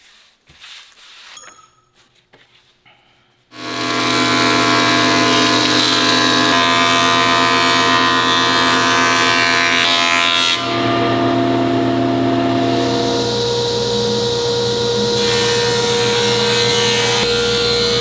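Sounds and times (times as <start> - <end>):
woodworking power tool running: 3.6 - 18.0.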